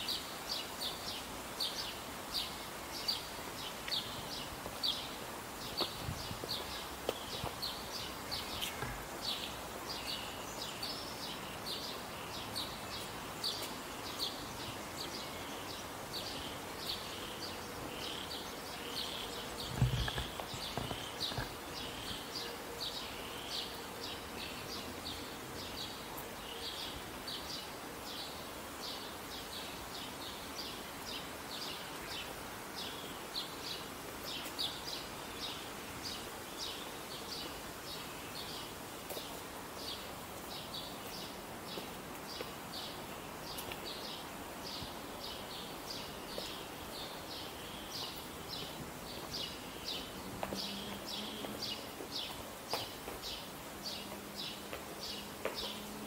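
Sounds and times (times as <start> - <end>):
birds chirping: 0.0 - 56.0
faint outdoor hiss: 0.0 - 56.0.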